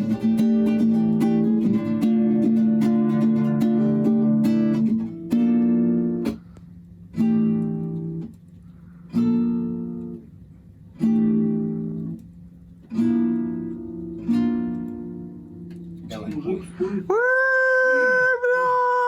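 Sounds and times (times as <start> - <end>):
acoustic guitar chords strummed: 0.0 - 17.1.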